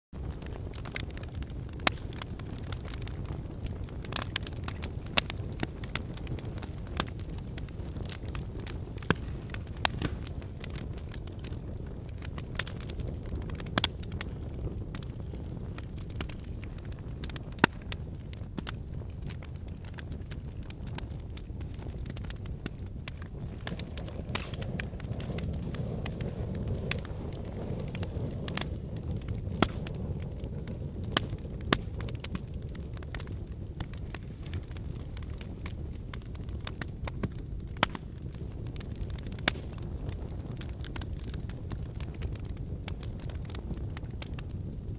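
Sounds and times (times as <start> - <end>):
wood fire crackling: 0.2 - 44.9.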